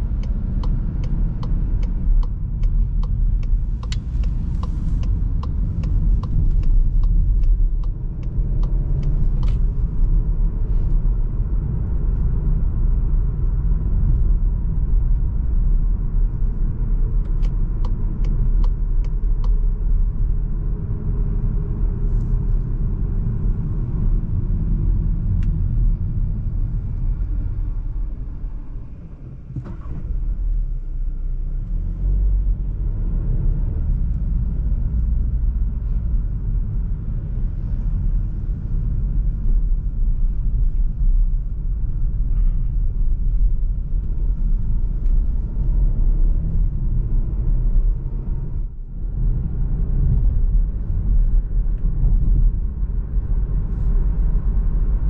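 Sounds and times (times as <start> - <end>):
car engine running: 0.0 - 55.0
road and tyre noise: 0.0 - 55.0.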